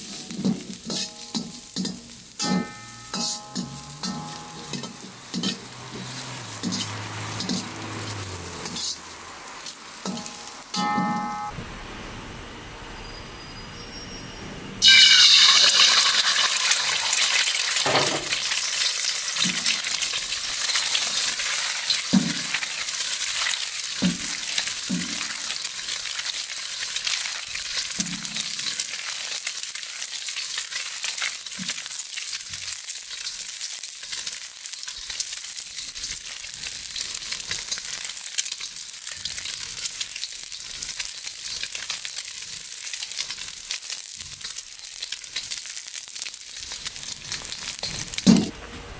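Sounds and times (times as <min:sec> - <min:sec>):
egg sizzling in hot oil: 0:00.0 - 0:11.5, 0:14.8 - 0:48.5.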